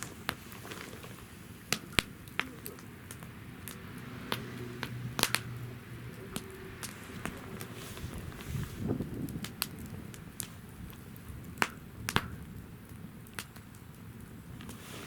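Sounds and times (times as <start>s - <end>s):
firewood popping: 0.0s - 15.0s
wood fire crackling: 0.0s - 15.0s.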